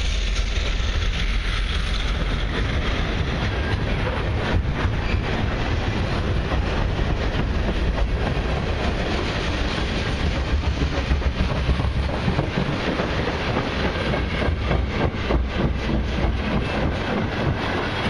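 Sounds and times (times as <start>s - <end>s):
freight cars rolling on rails: 0.0s - 18.0s.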